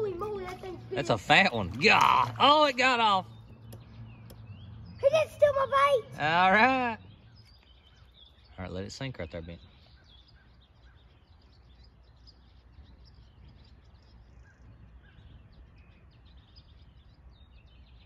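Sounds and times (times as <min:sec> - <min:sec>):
low outdoor background rumble: 0:00.0 - 0:18.0
small birds chirping: 0:00.0 - 0:18.0.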